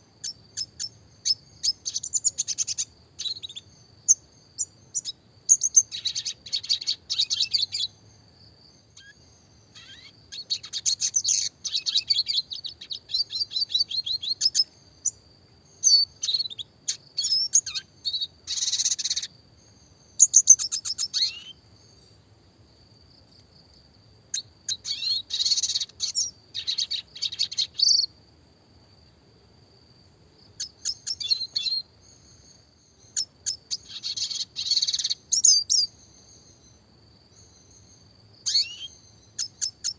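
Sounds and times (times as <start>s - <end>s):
bird twittering with trills: 0.2s - 8.0s, 9.0s - 19.3s, 20.1s - 22.1s, 24.3s - 28.1s, 30.6s - 36.8s, 37.4s - 39.9s.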